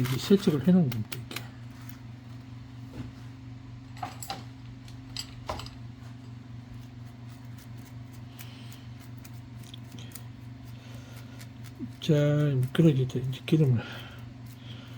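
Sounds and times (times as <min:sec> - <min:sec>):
low electrical hum: 0:00.0 - 0:14.9.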